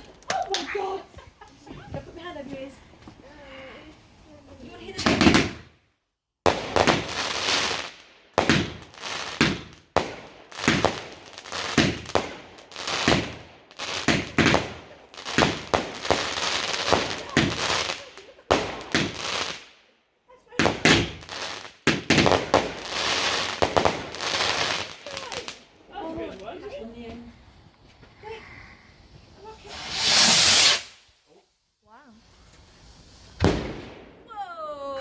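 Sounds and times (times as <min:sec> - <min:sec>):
fireworks banging and crackling: 0:00.0 - 0:05.8, 0:06.4 - 0:19.8, 0:20.5 - 0:28.1, 0:29.0 - 0:31.3, 0:32.0 - 0:34.2.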